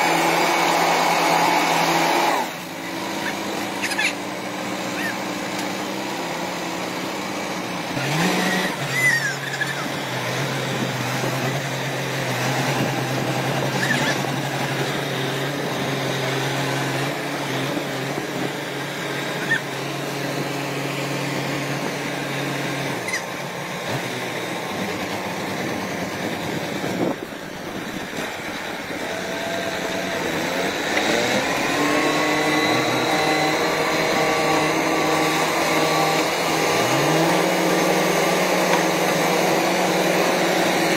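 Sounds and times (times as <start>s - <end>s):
tractor engine revving: 0.0s - 40.9s.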